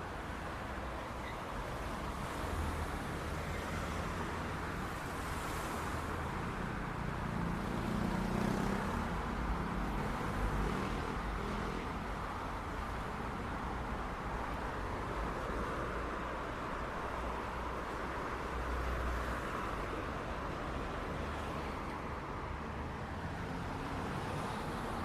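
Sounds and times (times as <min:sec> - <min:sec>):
road noise from passing cars: 0:00.0 - 0:25.0.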